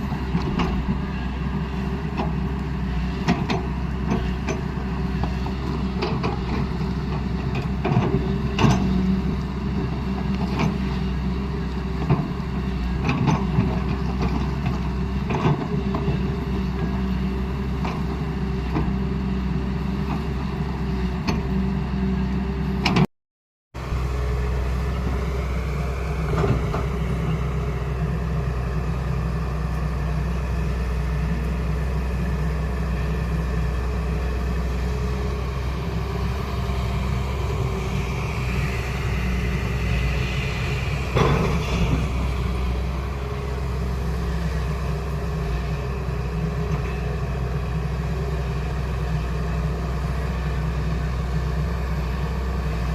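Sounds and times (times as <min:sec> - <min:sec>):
excavator diesel engine running: 0:00.0 - 0:23.1, 0:23.8 - 0:52.9.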